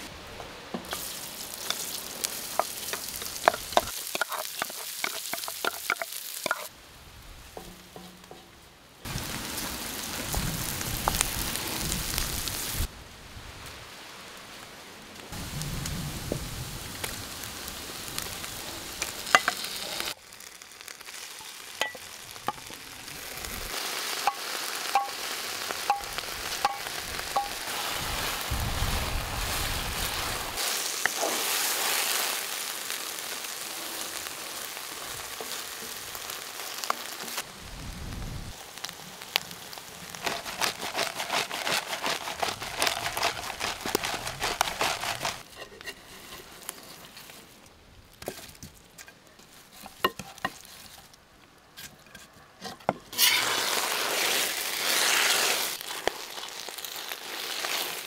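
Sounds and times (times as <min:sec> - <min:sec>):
mushrooms and potatoes sizzling: 0:00.0 - 0:12.9, 0:15.2 - 0:47.4, 0:53.1 - 0:58.0.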